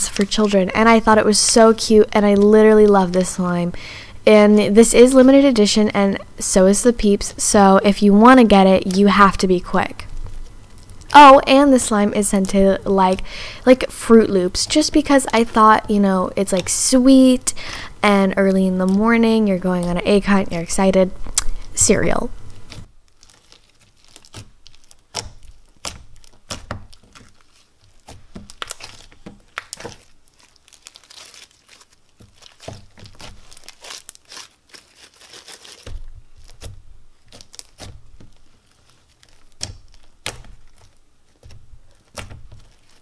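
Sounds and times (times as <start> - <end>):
slime crackling and popping: 0.0 - 3.8, 6.4 - 43.0.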